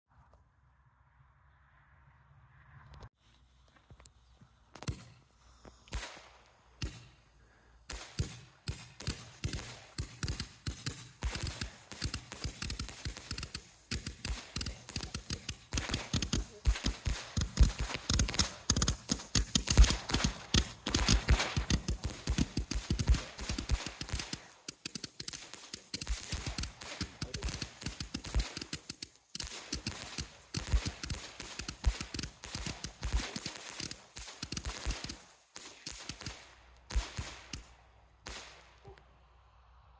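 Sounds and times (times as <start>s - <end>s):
firework cake firing: 5.8s - 38.8s.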